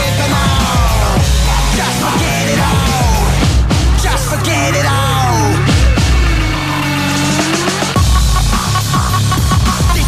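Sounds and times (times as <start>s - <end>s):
loud electronic music: 0.0s - 10.0s.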